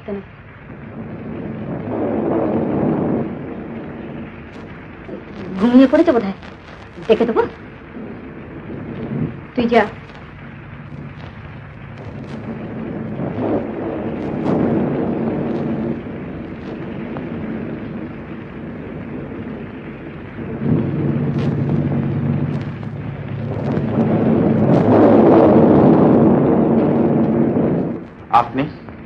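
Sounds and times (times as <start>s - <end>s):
rolling thunder: 0.0s - 29.0s
steady rain: 0.0s - 29.0s.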